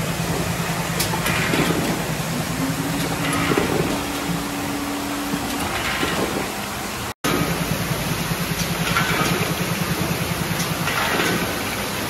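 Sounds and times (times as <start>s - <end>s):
conveyor machinery hum: 0.0s - 12.0s.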